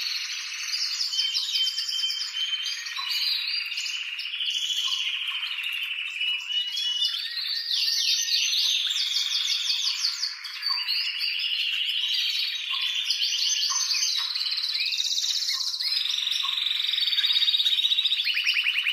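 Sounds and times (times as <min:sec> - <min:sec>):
canary singing trills: 0:00.0 - 0:18.9.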